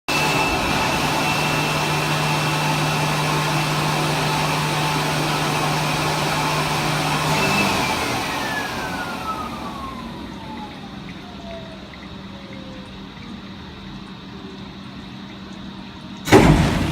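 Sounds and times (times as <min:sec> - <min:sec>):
blower motor whining: 0:00.1 - 0:14.9.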